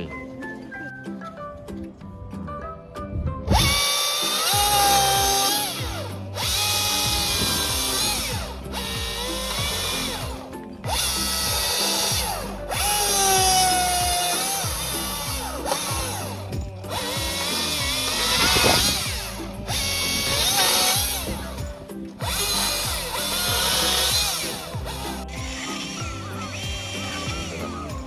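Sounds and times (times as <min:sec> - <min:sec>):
background music: 0:00.0 - 0:28.0
chainsaw cutting wood: 0:03.5 - 0:28.0.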